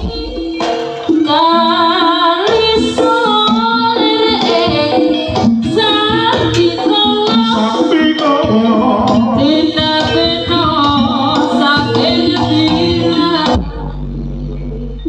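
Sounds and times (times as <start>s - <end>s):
person singing: 0.0s - 14.7s
drums and pitched percussion: 0.0s - 15.0s.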